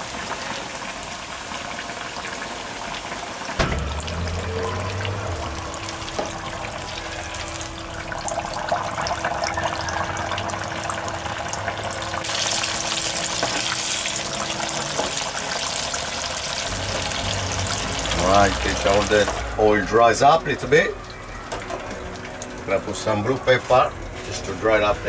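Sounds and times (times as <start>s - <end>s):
hot oil bubbling and crackling: 0.0s - 25.0s.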